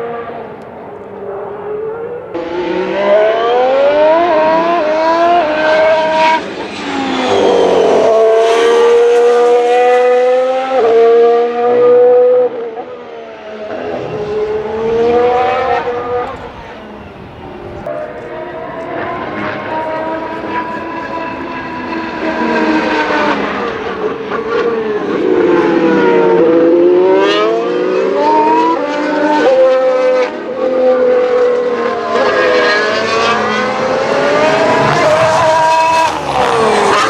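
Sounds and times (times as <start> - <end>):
racing car engines accelerating: 0.0 - 37.0.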